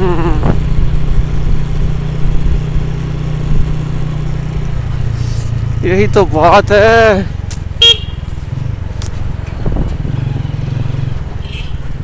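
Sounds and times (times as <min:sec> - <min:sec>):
motorcycle engine humming: 0:00.0 - 0:12.0.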